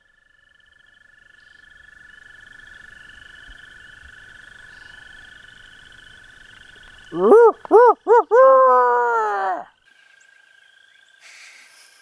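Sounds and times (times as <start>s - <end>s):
frogs trilling: 0.0s - 11.8s.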